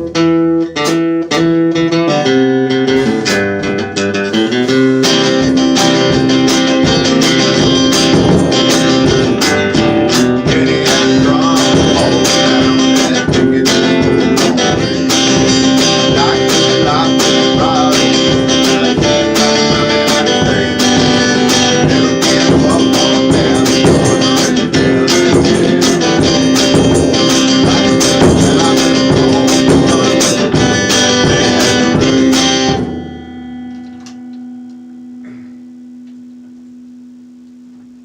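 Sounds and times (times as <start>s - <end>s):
guitar picked and strummed: 0.0s - 38.0s
percussion beat: 2.9s - 33.3s.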